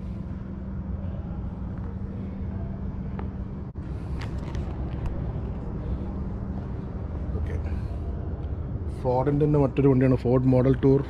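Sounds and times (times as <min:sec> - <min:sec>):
low hum of indoor hall: 0:00.0 - 0:11.0.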